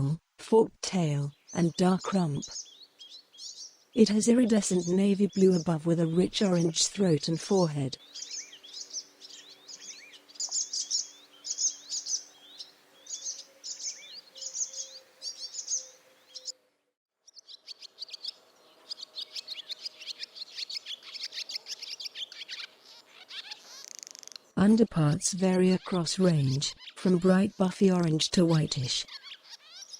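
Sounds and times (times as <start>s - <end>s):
swallows twittering: 1.3s - 6.9s, 7.5s - 16.6s, 17.3s - 24.5s, 25.5s - 29.9s.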